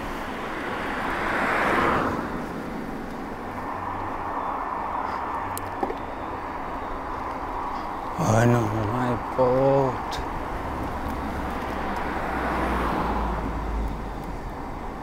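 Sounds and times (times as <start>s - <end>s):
road noise: 0.0s - 15.0s
vehicle passing: 0.0s - 15.0s
wind rushing over microphone: 0.0s - 15.0s.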